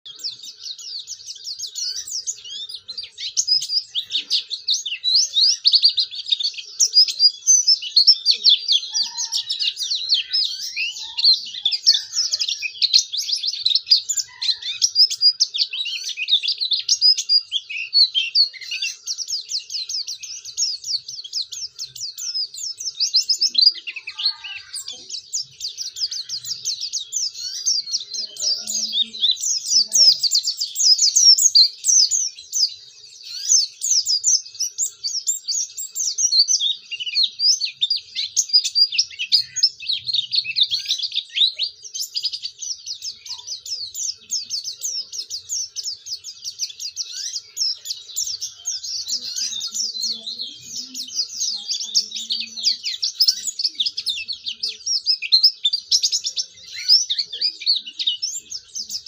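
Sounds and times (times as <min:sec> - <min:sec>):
bird twittering song: 0:00.0 - 0:59.0.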